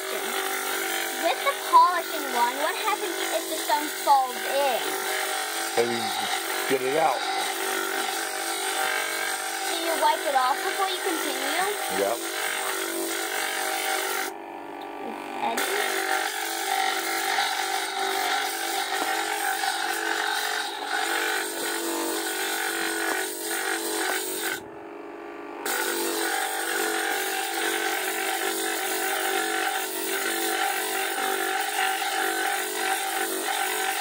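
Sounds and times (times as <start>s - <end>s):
stone grinding on spinning wheel: 0.0s - 24.7s, 25.6s - 34.0s
lapidary machine motor hum: 0.0s - 29.4s.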